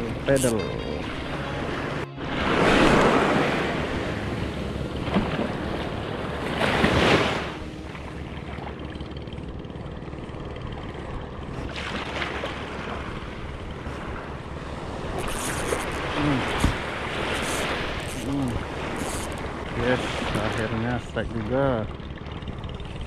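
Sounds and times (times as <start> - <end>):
small waves washing ashore: 0.0 - 23.0.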